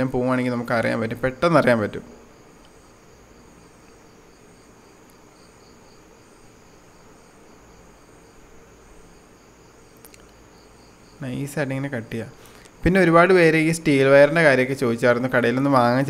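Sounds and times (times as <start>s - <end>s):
insect chirping trill: 0.0s - 16.0s
low background hum: 0.0s - 16.0s.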